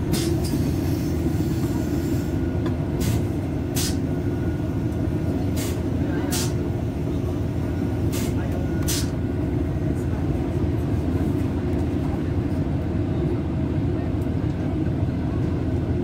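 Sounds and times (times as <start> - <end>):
train engine and wheels rumbling: 0.0 - 16.0.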